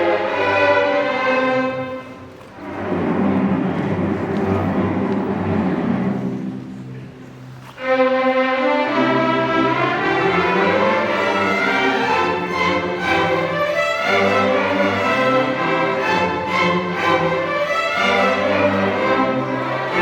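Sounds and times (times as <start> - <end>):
string orchestra playing: 0.0 - 20.0.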